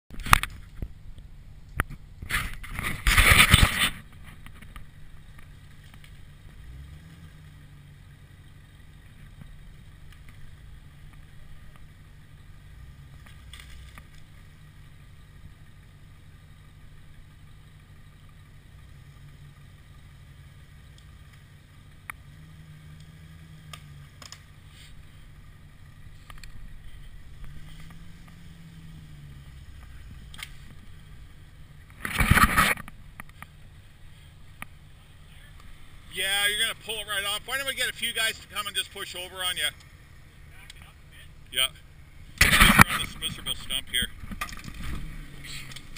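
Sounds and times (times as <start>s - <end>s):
engine running at low revs: 0.1s - 45.9s.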